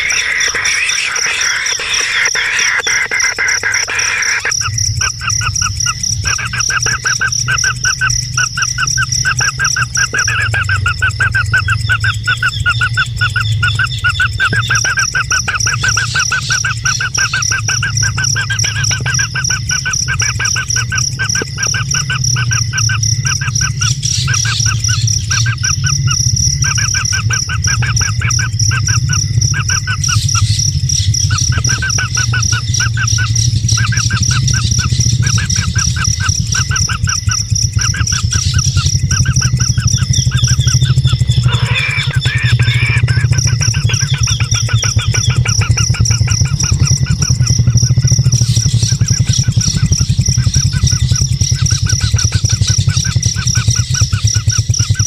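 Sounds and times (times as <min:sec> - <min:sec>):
bird chirping: 0:00.0 - 0:55.0
high-pitched whine: 0:00.0 - 0:55.0.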